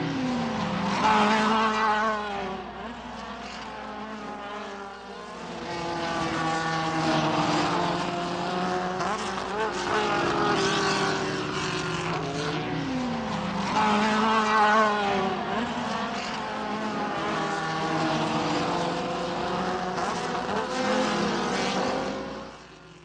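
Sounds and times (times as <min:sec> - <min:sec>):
race car engines passing at high revs: 0:00.0 - 0:23.0.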